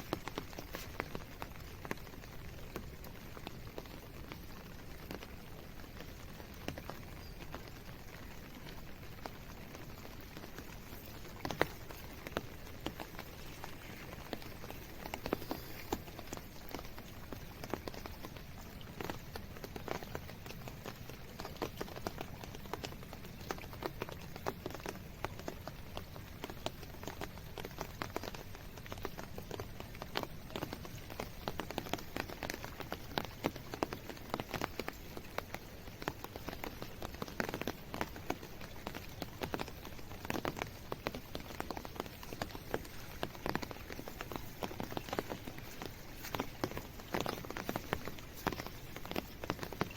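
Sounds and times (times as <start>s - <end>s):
rain on hard surfaces: 0.0s - 49.9s.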